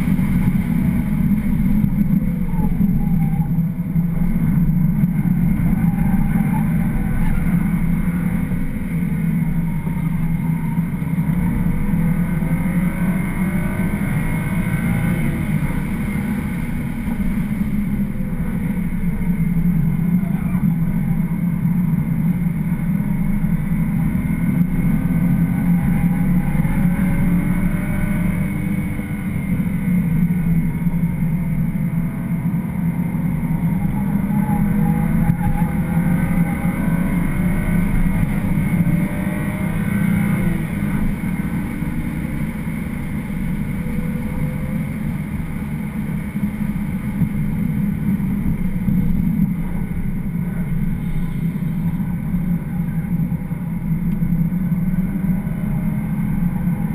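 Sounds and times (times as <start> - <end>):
car engine revving: 0.0 - 56.9
tyre and road rumble: 0.0 - 56.9.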